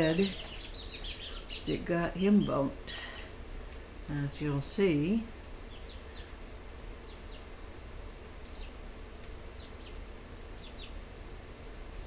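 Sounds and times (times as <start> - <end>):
birds chirping: 0.0 - 3.4, 4.1 - 7.6, 8.4 - 11.2
steady low hum: 0.0 - 12.0.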